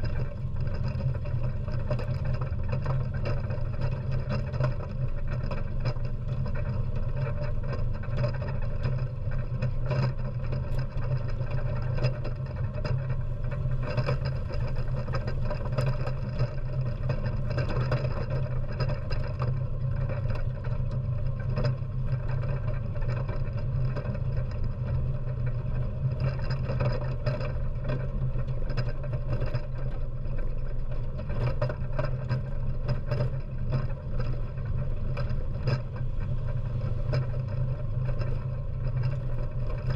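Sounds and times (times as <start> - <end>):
atv engine running: 0.0 - 39.9
short clicks and rattles: 0.0 - 39.9.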